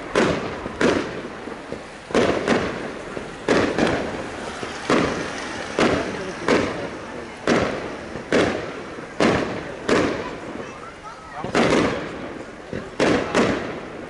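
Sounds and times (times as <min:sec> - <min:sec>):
fireworks bangs with echo: 0:00.0 - 0:14.0.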